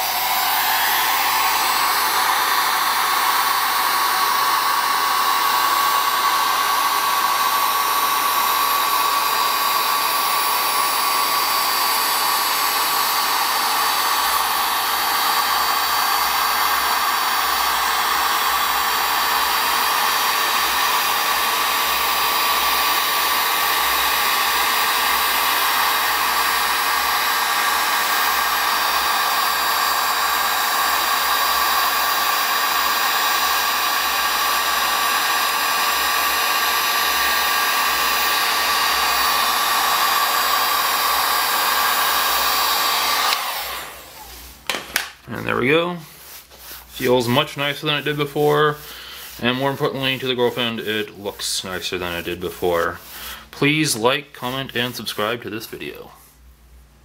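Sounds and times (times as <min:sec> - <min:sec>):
heat gun blowing with whine: 0:00.0 - 0:57.0.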